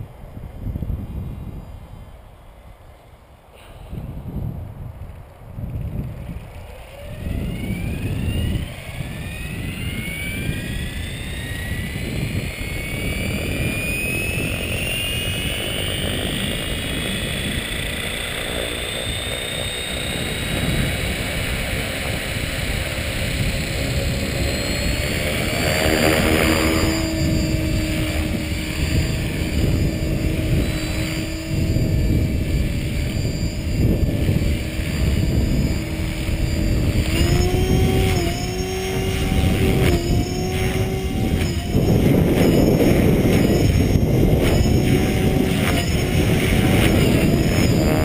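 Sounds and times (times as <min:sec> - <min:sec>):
low rumbling noise: 0:00.0 - 0:48.0
rc helicopter motor whine: 0:03.6 - 0:48.0.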